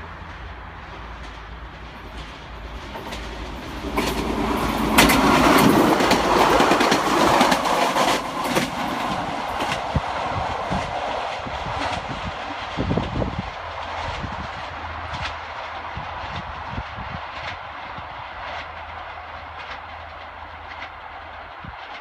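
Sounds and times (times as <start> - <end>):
train passing at speed: 0.0 - 22.0
wheels clicking over rail joints: 0.1 - 22.0.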